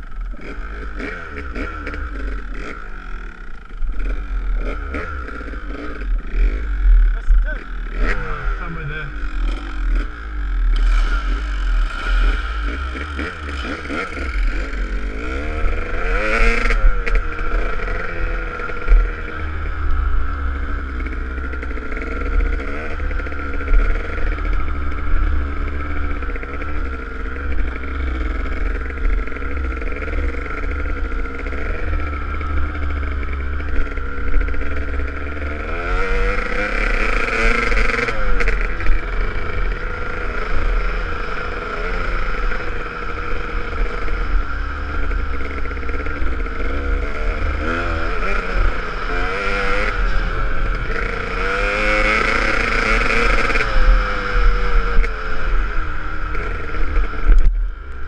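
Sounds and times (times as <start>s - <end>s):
dirt bike engine revving: 0.0s - 57.6s.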